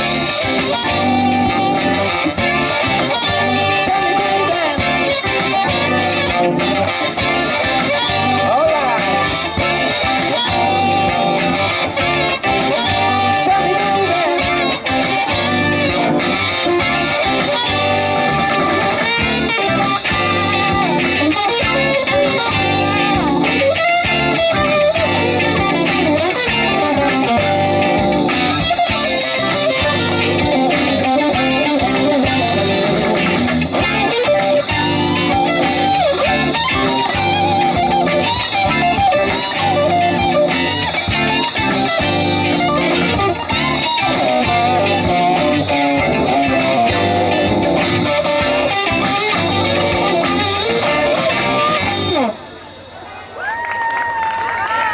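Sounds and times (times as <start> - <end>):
live blues band: 0.0 - 52.8
electric guitar bent notes: 0.0 - 53.0.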